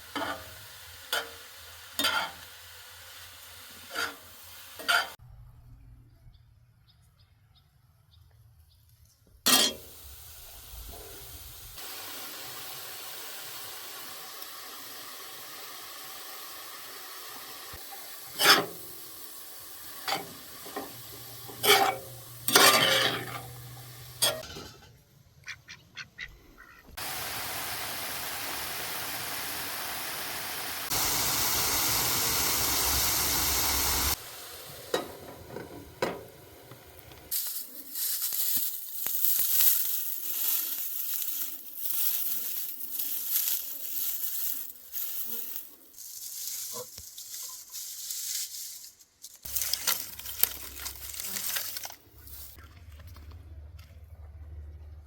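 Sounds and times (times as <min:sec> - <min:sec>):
food sizzling in a pan: 0:00.0 - 0:05.2, 0:09.6 - 0:24.4, 0:27.0 - 0:48.4, 0:49.4 - 0:52.6.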